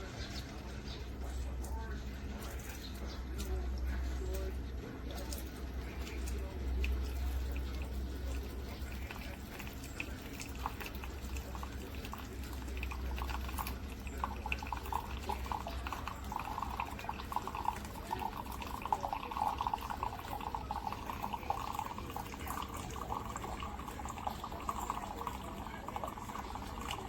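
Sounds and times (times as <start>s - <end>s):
coffee trickling into a cup: 0.0s - 27.0s
low machine hum: 0.0s - 27.0s.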